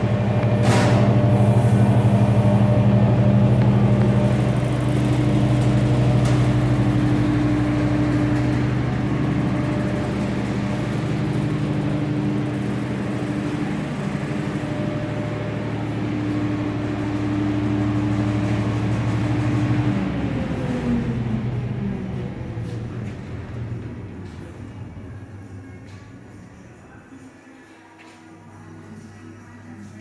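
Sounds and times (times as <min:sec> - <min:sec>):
deboning machine motor hum: 0:00.0 - 0:27.1.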